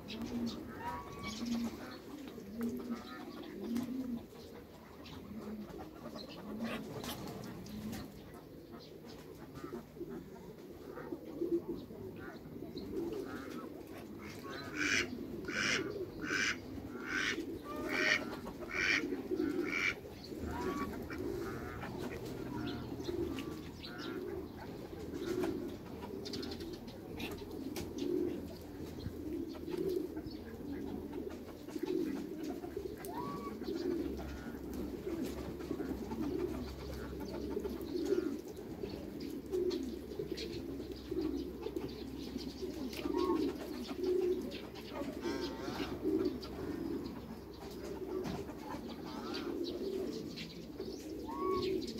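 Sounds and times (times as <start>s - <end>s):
pigeons cooing: 0.0s - 51.9s.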